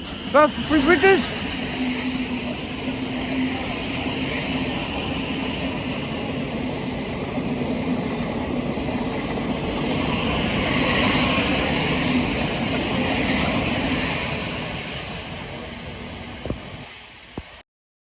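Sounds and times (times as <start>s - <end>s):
train wheels rumbling on rail: 0.0s - 17.6s.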